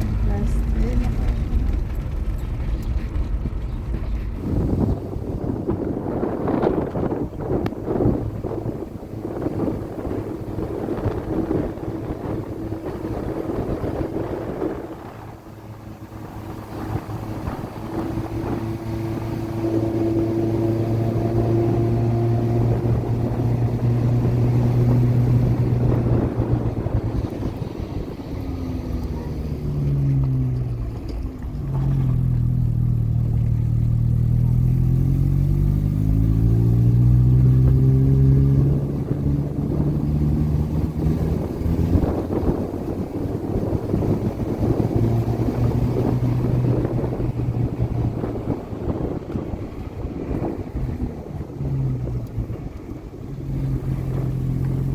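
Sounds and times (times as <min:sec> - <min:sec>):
motor engine running: 0:00.0 - 0:54.9.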